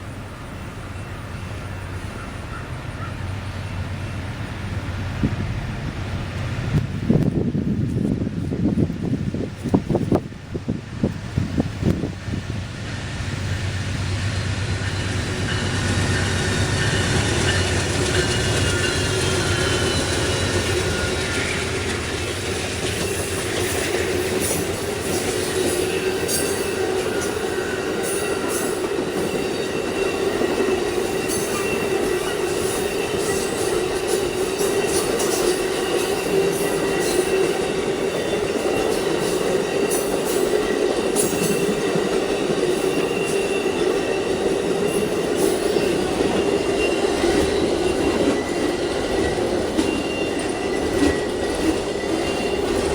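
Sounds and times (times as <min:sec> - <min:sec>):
train wheel squeal: 0:00.0 - 0:08.8, 0:11.0 - 0:52.9
locomotive rumble: 0:00.0 - 0:52.9.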